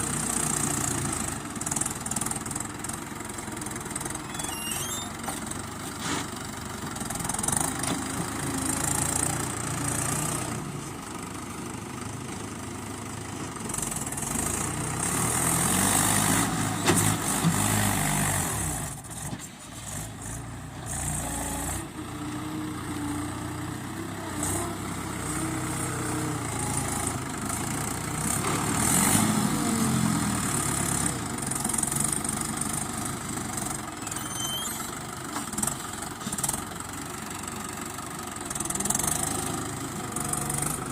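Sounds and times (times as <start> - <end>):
diesel tractor engines revving: 0.0 - 40.9.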